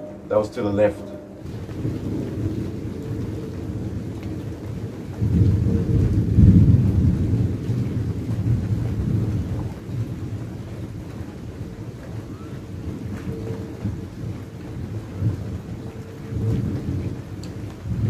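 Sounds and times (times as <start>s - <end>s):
rain falling: 0.0s - 18.0s
thunder rumbling: 0.0s - 18.0s.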